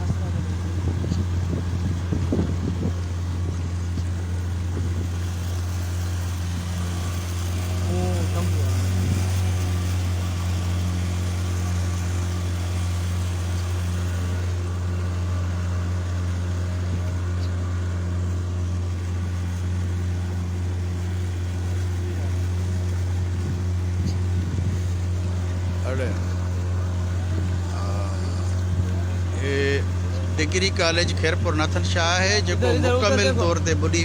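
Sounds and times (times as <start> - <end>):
motorboat engine humming: 0.0 - 34.0.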